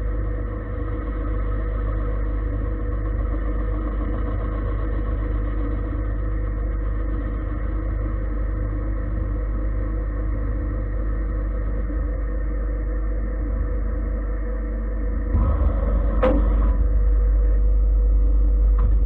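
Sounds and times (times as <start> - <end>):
lathe machine hum: 0.0 - 19.0.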